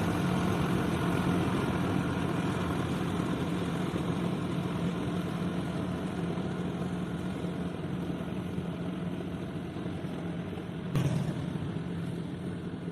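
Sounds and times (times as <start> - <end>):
harvester engine drone: 0.0 - 12.9.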